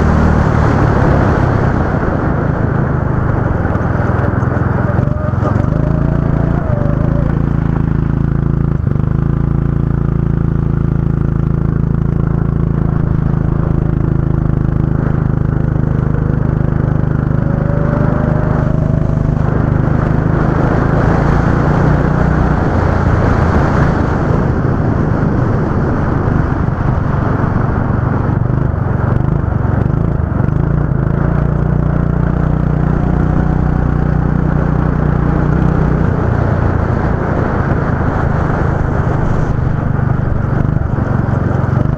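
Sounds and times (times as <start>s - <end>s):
distant kart engines rising in pitch: 0.0s - 41.9s
go-kart engine drone: 0.0s - 41.9s.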